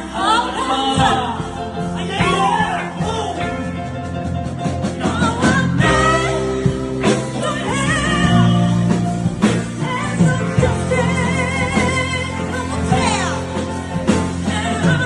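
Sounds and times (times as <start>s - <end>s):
person singing with vibrato: 0.0s - 4.0s, 4.8s - 15.0s
rock band playing: 0.0s - 15.0s.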